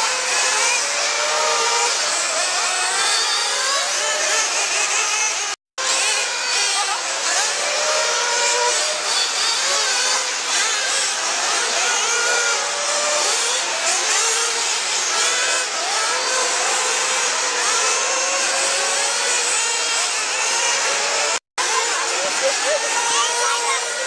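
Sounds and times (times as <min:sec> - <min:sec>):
small engines whining: 0:00.0 - 0:24.0.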